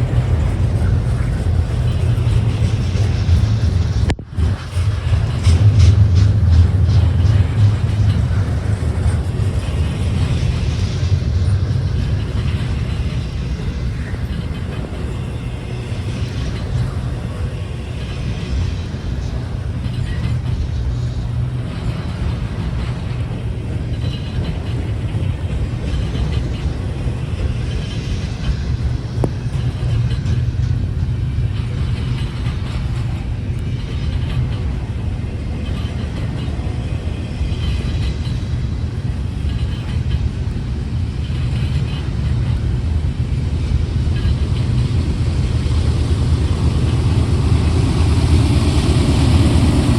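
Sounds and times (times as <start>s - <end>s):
train rumbling: 0.0s - 49.9s.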